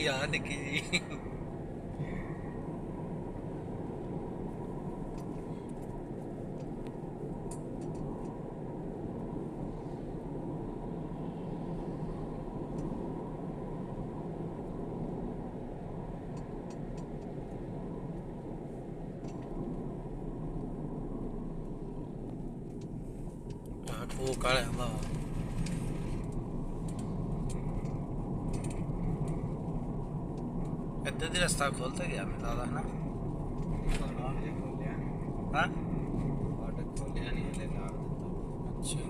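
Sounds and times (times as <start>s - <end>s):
low mechanical rumble: 0.0s - 39.0s.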